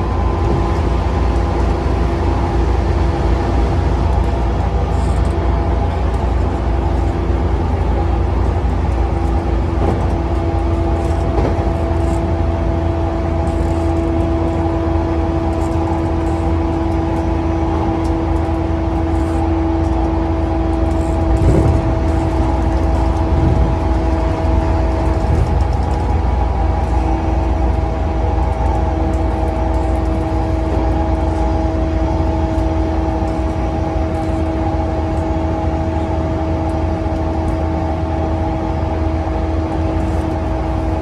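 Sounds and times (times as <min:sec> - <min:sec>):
train motor whine: 0:00.0 - 0:41.0
wheels rumbling on rail: 0:00.0 - 0:41.0.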